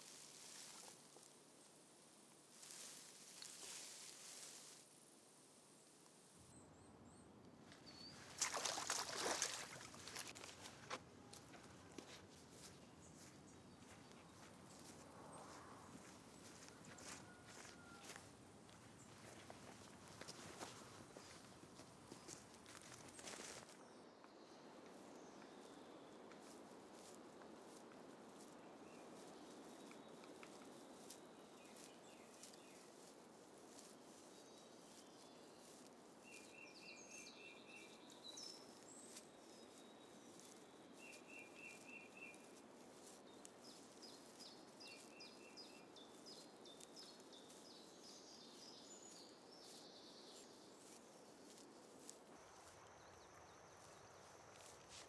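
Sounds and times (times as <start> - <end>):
soft steady hush: 0.0 - 55.0.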